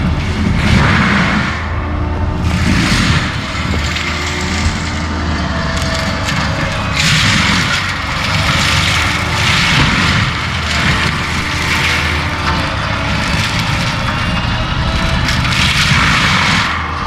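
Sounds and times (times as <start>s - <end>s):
mulcher grinding wood: 0.0s - 17.0s
skid steer engine running: 0.0s - 17.0s.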